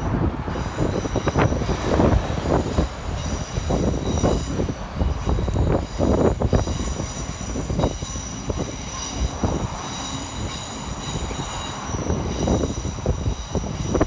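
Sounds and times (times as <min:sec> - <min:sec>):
train rumbling over bridge: 0:00.0 - 0:14.0
high-pitched ringing tones: 0:00.5 - 0:14.0.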